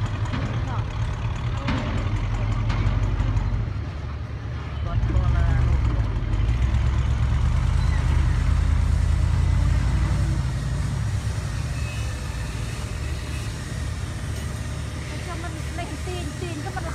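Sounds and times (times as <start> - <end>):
dump truck diesel engine rumbling: 0.0 - 16.9.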